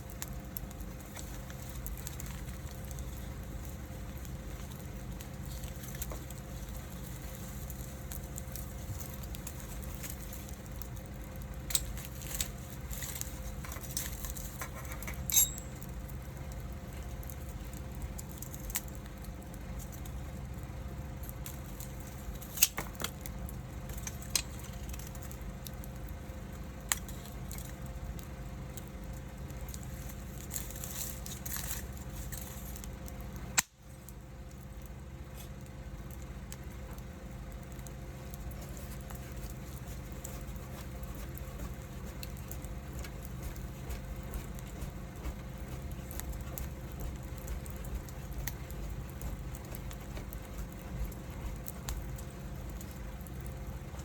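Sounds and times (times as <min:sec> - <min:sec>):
fire crackles and pops: 0:00.0 - 0:54.0
wood fire rushing: 0:00.0 - 0:54.0.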